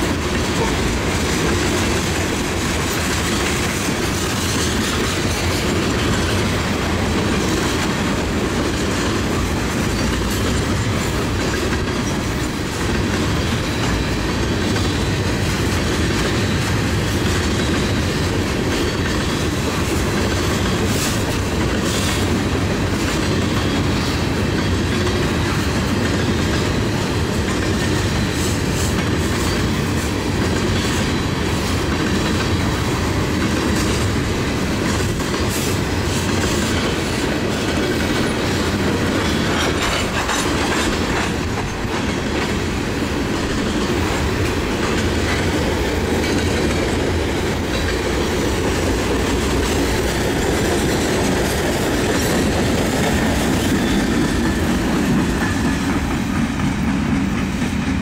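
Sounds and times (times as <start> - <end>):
freight train cars rumbling: 0.0 - 58.0
wheels clicking over rail joints: 0.0 - 58.0.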